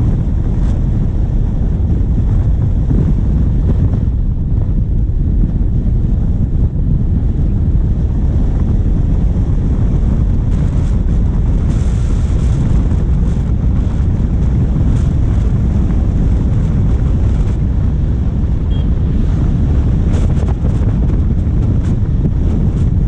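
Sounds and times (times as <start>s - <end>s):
diesel vehicle driving: 0.0s - 23.0s
wind buffeting microphone: 0.0s - 23.0s.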